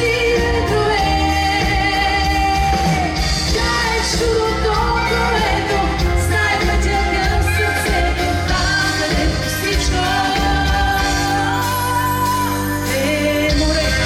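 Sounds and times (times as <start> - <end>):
band with strong bass and beat: 0.0 - 14.0
person singing pop song: 0.0 - 14.0.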